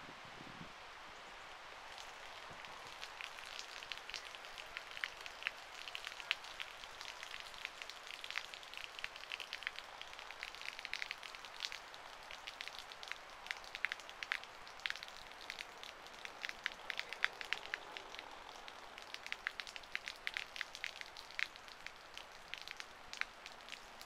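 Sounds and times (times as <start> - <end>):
rain falling: 0.0 - 24.0
raindrops ticking near microphone: 1.2 - 24.0.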